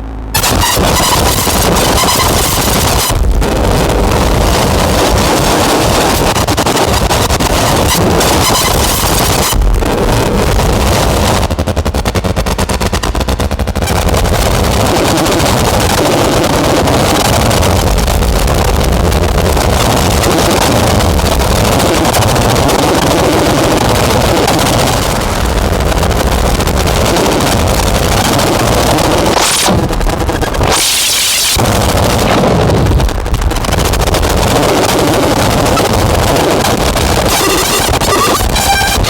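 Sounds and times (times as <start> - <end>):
distorted synthesizer noise drone: 0.0 - 39.0.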